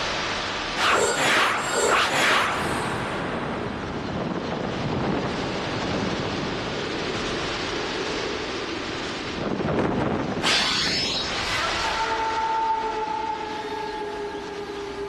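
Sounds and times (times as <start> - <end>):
rushing wind sound effect: 0.0 - 12.2.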